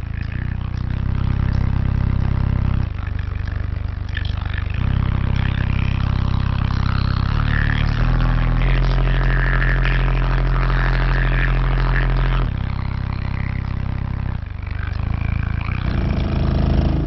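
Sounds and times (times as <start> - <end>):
car subwoofers playing deep bass: 0.0 - 17.0.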